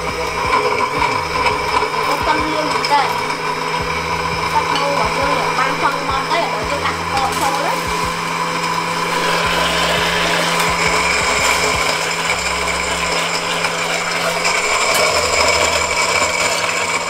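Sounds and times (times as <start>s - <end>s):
blender motor whirring: 0.0s - 17.0s
low hum: 0.0s - 17.0s.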